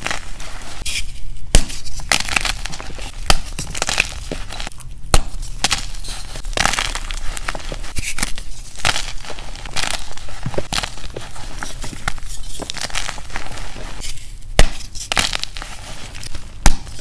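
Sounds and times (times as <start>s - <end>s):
chalk crunching and crumbling: 0.0s - 17.0s
chalk blocks cracking: 1.6s - 17.0s.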